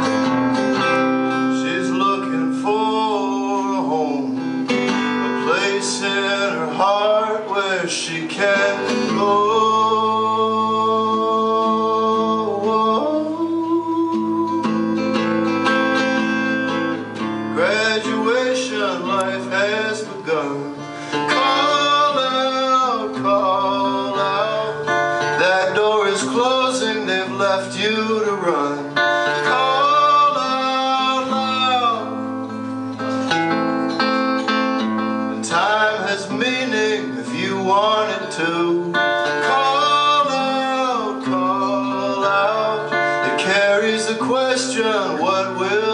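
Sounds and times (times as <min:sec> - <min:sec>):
man singing: 0:00.0 - 0:32.7, 0:34.8 - 0:45.9
acoustic guitar: 0:00.0 - 0:45.9.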